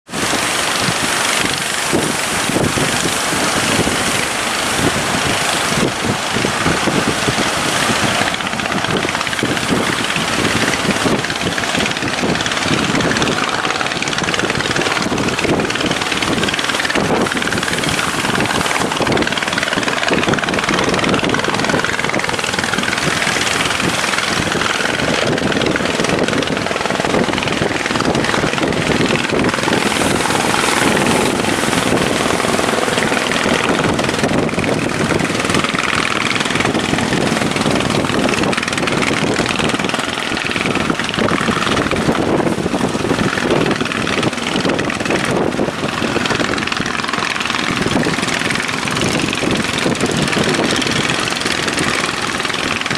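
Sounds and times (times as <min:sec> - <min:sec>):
boat engines running hard: 0:00.0 - 0:52.9
waves: 0:00.0 - 0:52.9.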